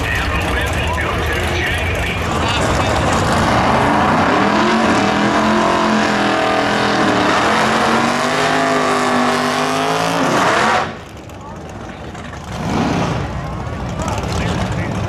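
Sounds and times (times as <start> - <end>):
car engine revving high: 0.0 - 11.2, 12.4 - 13.5.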